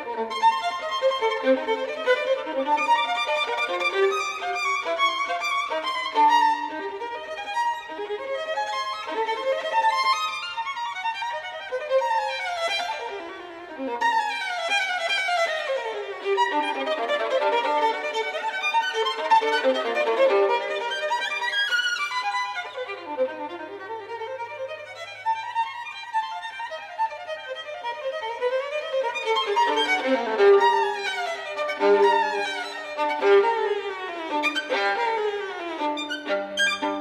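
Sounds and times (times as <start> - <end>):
solo violin playing fast runs: 0.0 - 37.0.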